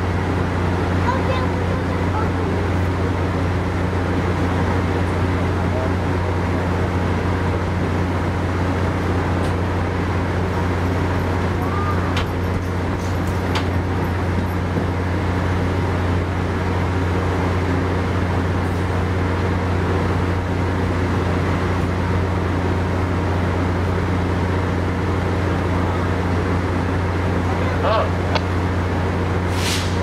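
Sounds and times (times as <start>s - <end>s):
diesel locomotive idling: 0.0s - 30.0s.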